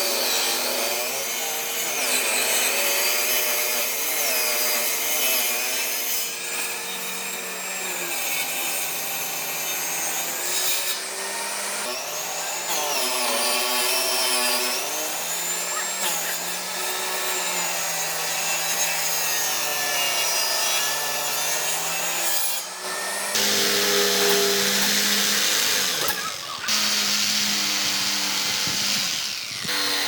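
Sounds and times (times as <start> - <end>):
power tool cutting wood: 0.0 - 30.0.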